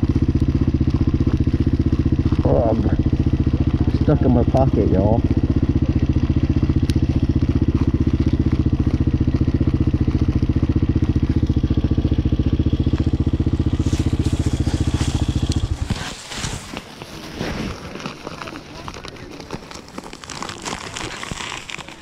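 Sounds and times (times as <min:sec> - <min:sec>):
dirt bike engine idling: 0:00.0 - 0:19.4.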